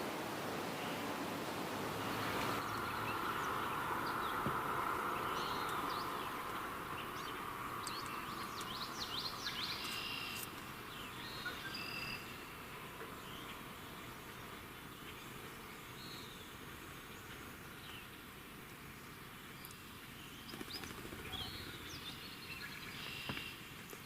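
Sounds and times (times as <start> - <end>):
background hiss: 0.0 - 24.0
birds chirping: 0.0 - 24.0.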